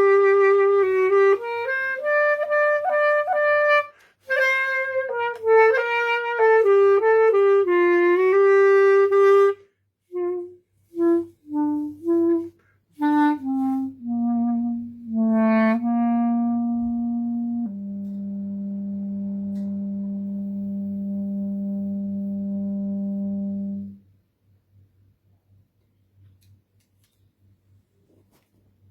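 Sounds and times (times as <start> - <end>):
solo instrumental melody: 0.0 - 24.0.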